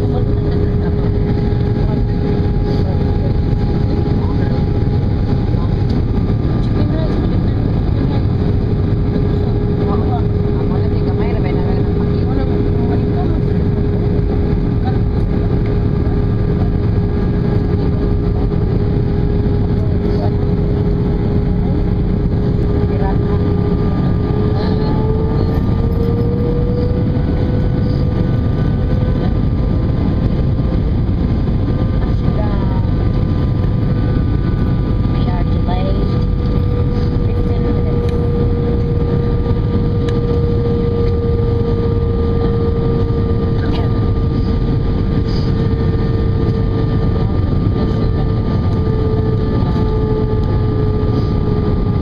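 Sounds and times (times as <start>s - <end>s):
engine and airflow rush: 0.0s - 52.0s
engine whine: 0.0s - 52.0s.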